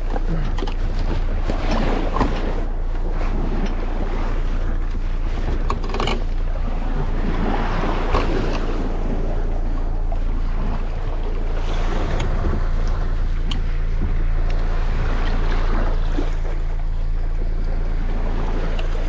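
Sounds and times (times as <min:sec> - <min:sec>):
outboard motor running: 0:00.0 - 0:19.0
water sounds: 0:00.0 - 0:19.0
wind buffeting microphone: 0:00.0 - 0:19.0.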